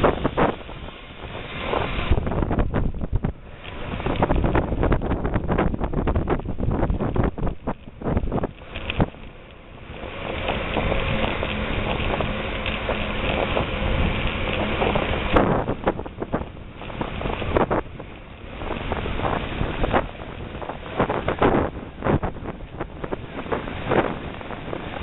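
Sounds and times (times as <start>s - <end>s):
bicycle tyres on dirt road: 0.0s - 25.0s
wind buffeting microphone: 0.0s - 25.0s.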